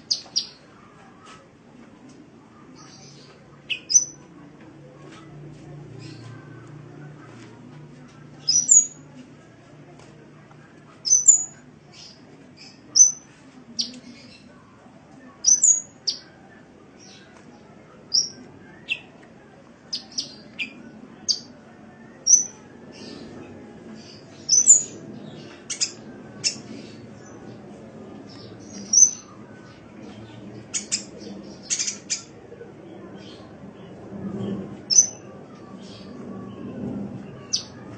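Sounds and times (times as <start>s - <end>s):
faint low rumble: 0.7s - 37.9s.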